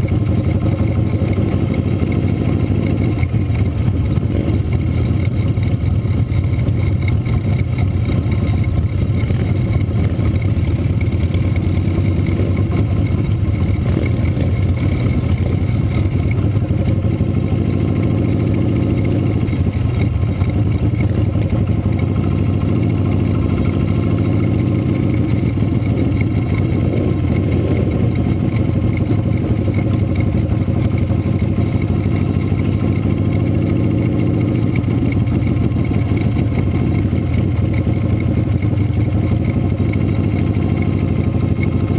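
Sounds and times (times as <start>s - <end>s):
motorcycle engine cruising: 0.0s - 41.9s
other motorcycles running: 0.0s - 41.9s.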